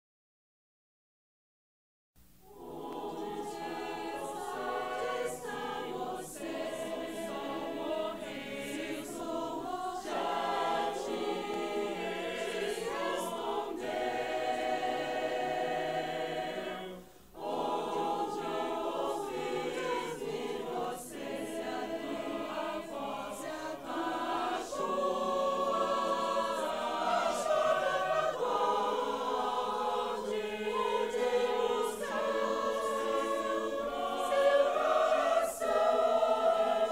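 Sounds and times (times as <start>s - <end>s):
mixed choir singing in harmony: 2.4s - 36.9s.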